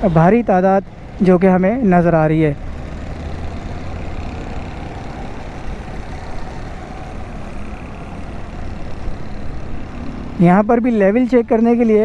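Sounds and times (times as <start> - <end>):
cars passing: 0.0 - 12.0
low engine hum: 0.0 - 12.0
motorcycles passing: 0.0 - 12.0.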